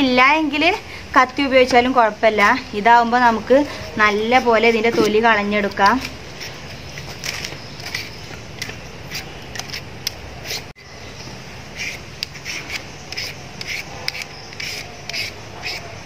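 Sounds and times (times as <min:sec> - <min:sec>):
peeler scraping potato: 0:01.6 - 0:10.8, 0:11.7 - 0:16.0.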